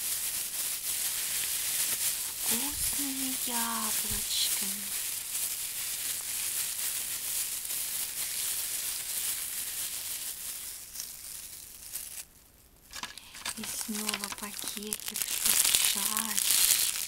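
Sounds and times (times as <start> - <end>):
plastic wrap crinkling: 0.0 - 17.0.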